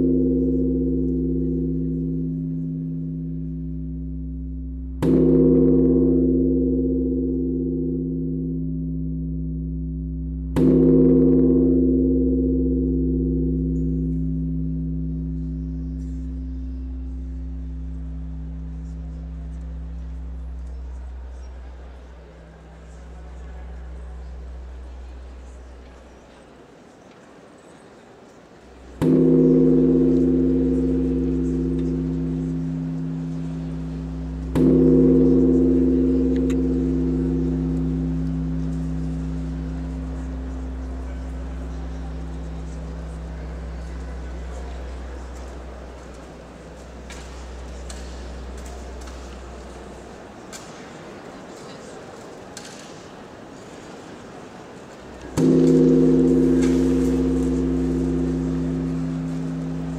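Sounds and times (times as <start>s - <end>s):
deep struck metal percussion ringing: 0.0s - 26.1s, 28.8s - 50.1s, 55.3s - 59.9s.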